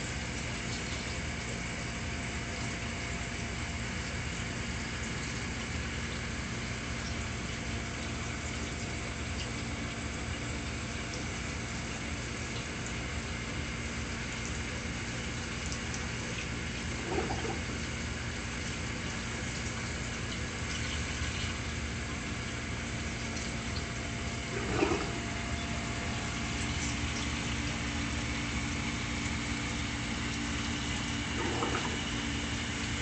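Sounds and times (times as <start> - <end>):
circulating water rushing: 0.0 - 33.0
pumps humming: 0.0 - 33.0.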